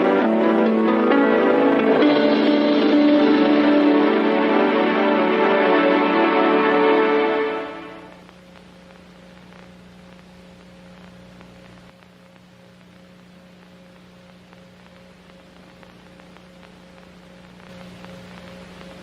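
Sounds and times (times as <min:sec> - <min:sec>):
crackling static hiss: 0:00.0 - 0:19.0
electrical hum: 0:00.0 - 0:19.0.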